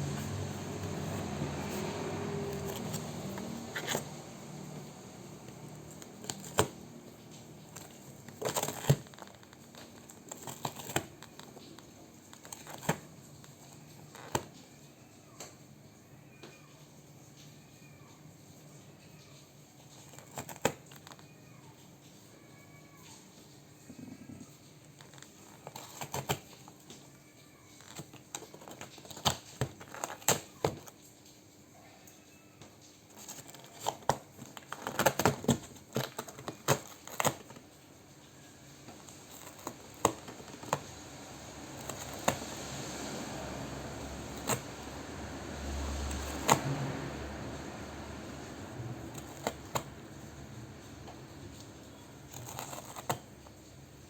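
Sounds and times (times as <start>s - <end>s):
crinkly rustling: 0.0s - 15.5s, 17.2s - 54.0s.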